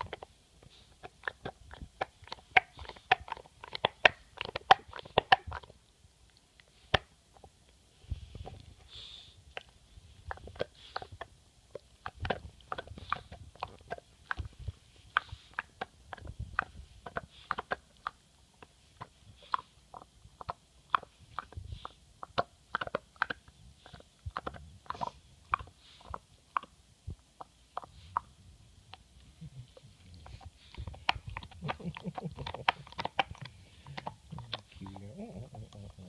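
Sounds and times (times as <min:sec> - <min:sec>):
dog gnawing a bone: 0:00.0 - 0:36.0.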